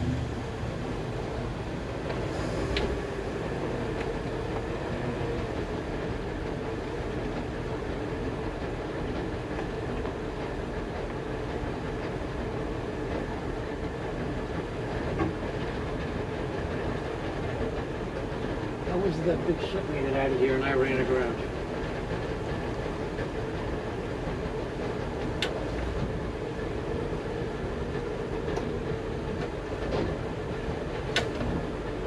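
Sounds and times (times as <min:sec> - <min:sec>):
motorboat engine and water rumbling: 0:00.0 - 0:32.0.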